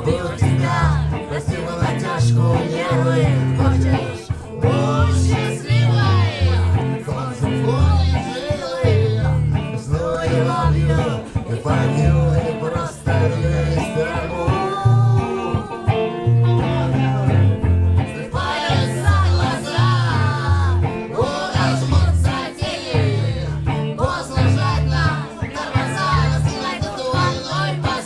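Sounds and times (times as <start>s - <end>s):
bass notes: 0.0s - 28.0s
guitar: 0.0s - 28.0s
person singing: 0.0s - 28.0s.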